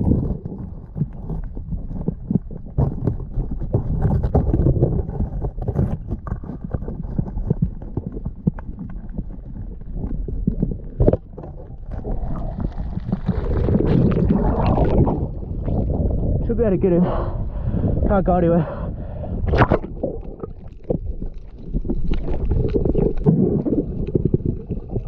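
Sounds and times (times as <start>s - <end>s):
muffled underwater rumble: 0.0s - 25.0s.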